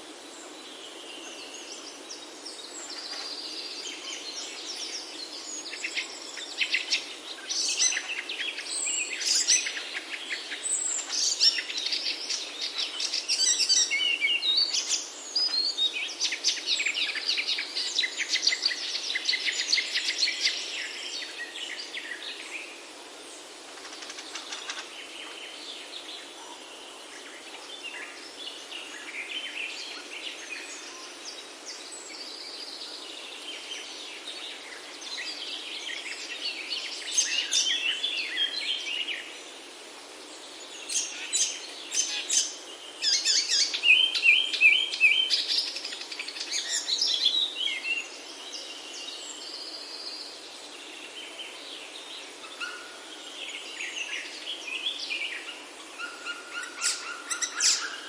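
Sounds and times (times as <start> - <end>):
steady background hiss: 0.0 - 58.0
birds singing and chirping: 0.3 - 58.0.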